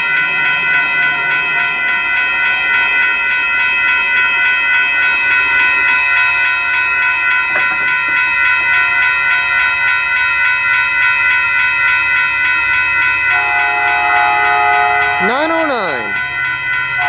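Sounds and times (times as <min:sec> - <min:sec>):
crossing bell ringing: 0:00.0 - 0:17.0.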